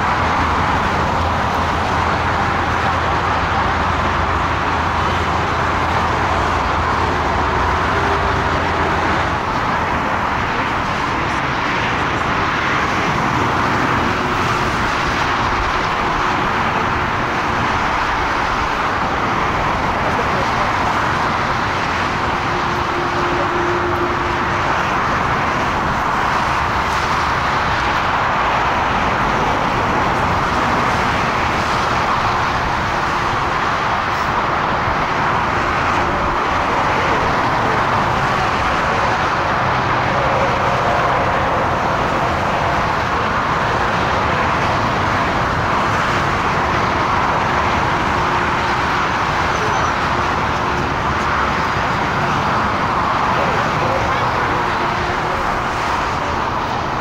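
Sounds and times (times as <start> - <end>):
jet engines at takeoff power: 0.0 - 57.0.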